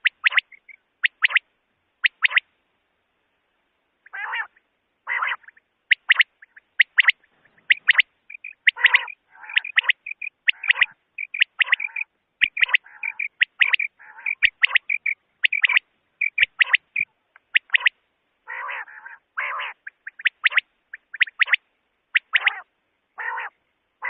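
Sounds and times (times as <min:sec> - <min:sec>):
quail calling: 0:00.0 - 0:01.4, 0:02.0 - 0:02.5, 0:04.0 - 0:23.6.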